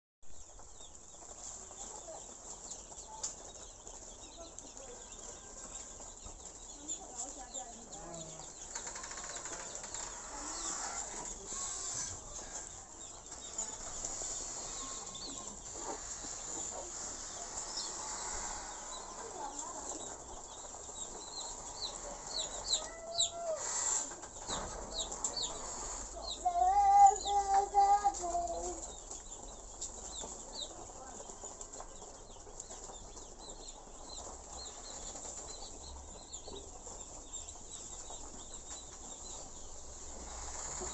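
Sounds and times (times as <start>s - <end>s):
chicks peeping: 0.3s - 40.9s.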